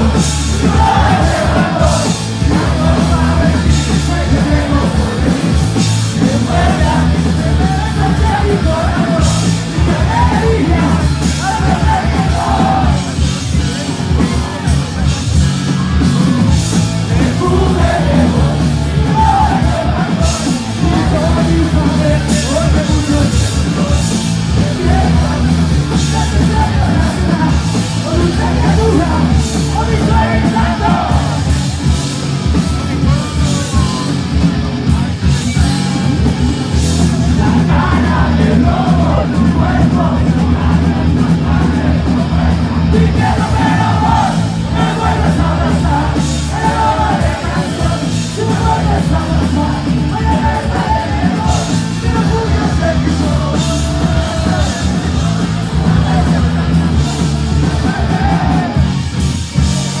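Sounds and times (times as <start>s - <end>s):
punk rock band playing live: 0.0s - 60.0s.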